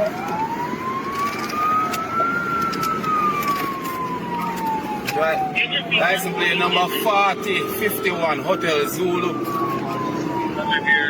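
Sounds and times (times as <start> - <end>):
car engine and road noise: 0.0 - 11.0
police siren wailing: 0.0 - 11.0.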